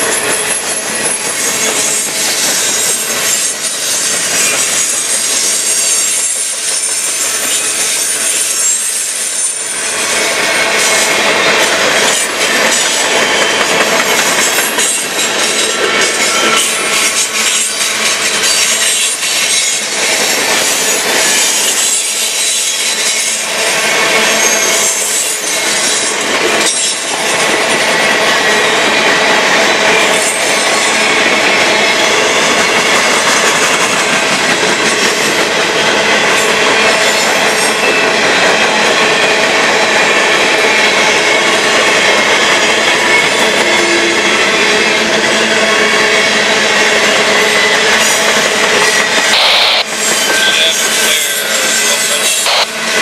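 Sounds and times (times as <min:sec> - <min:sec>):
wheels clicking over rail joints: 0:00.0 - 0:49.3
high wheel squeal: 0:00.0 - 0:53.0
train wheels rumbling and rattling: 0:00.0 - 0:53.0.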